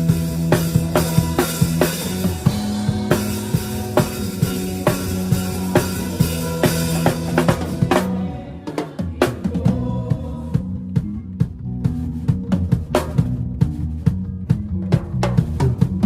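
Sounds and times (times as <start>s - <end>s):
band holding notes: 0.0s - 16.0s
drum kit playing: 0.0s - 16.0s.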